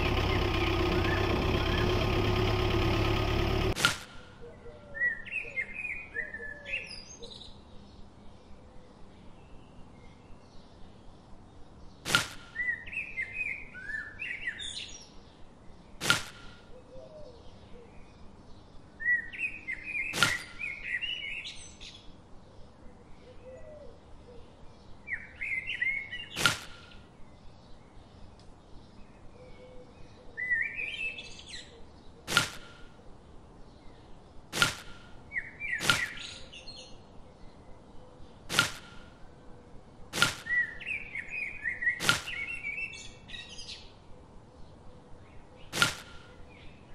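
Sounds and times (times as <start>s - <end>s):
bird chirping: 0.0s - 46.9s.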